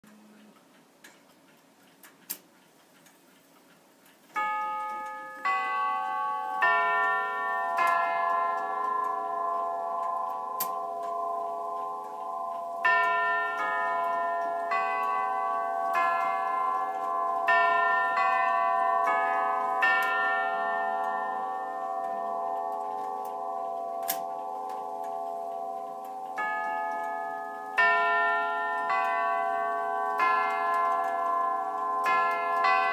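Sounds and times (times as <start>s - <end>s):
faint clock clicks: 0.1s - 32.9s
tubular chimes ringing: 4.4s - 32.9s.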